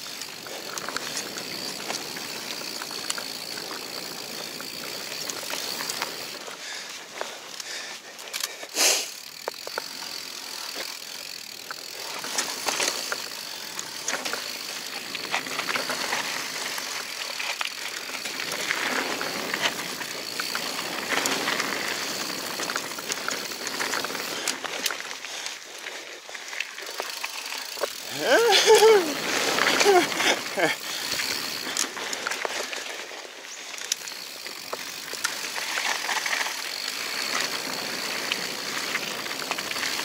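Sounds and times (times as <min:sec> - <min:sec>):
bike clicks and rattles: 0:00.0 - 0:40.0.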